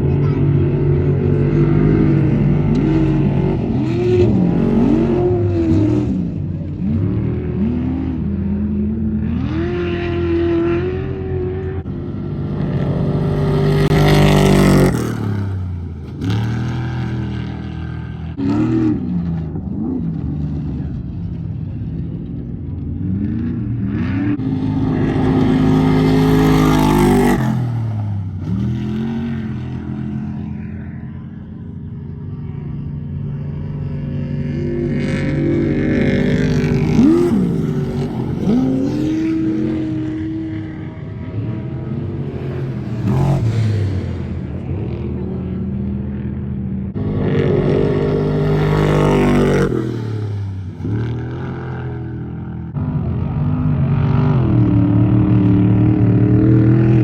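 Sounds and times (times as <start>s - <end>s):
race truck engines revving: 0.0s - 57.0s.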